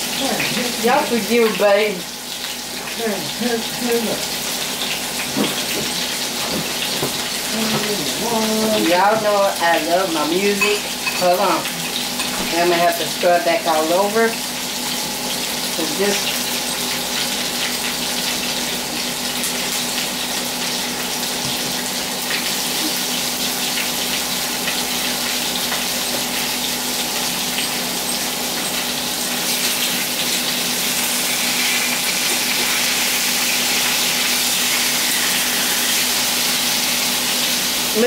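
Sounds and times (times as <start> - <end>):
steaks sizzling in frying pan: 0.0 - 38.0.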